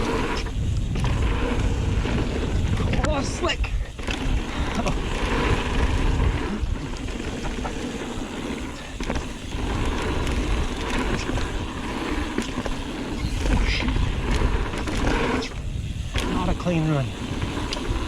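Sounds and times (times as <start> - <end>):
bike clicks and rattles: 0.0 - 18.0
tyres rolling on dirt: 0.0 - 18.0
wind on microphone: 0.0 - 18.0.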